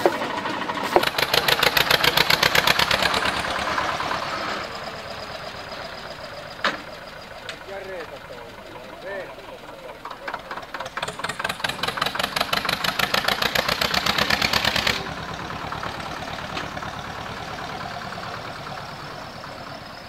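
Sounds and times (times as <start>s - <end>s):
tractor diesel engine chugging: 0.0s - 20.0s.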